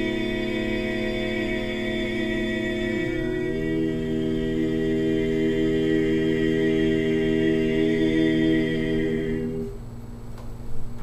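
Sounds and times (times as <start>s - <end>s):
male quartet singing a cappella: 0.0s - 9.8s.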